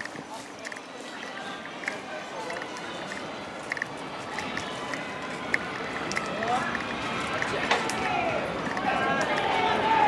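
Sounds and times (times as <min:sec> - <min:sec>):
footsteps on paved path: 0:00.0 - 0:10.0
outdoor background noise: 0:00.0 - 0:10.0.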